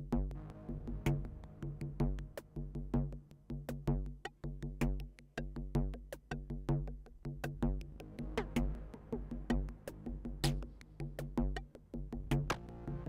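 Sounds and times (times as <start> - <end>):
drum machine beat: 0.0 - 12.7.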